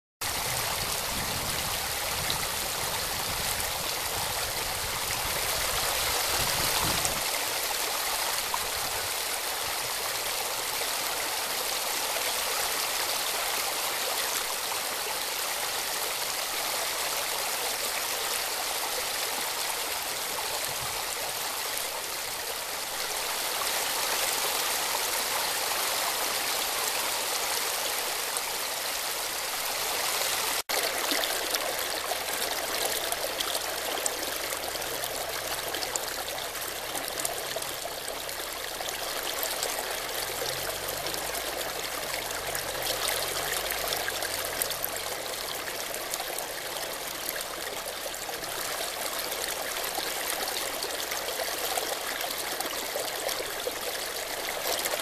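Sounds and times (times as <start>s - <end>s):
stream rushing over stones: 0.2s - 55.0s.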